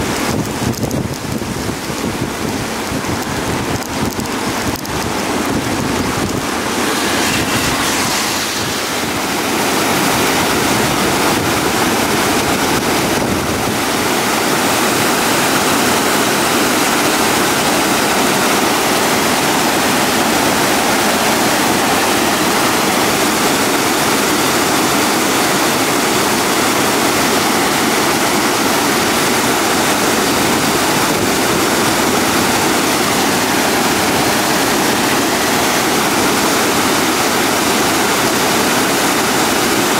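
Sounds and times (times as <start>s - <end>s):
wind buffeting microphone: 0.0s - 16.9s, 17.6s - 37.1s
roar of rushing water: 0.0s - 39.9s.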